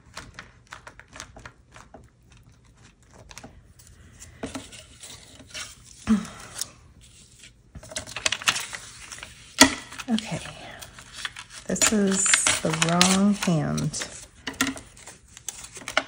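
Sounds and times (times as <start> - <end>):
paper rustling: 0.0 - 16.0.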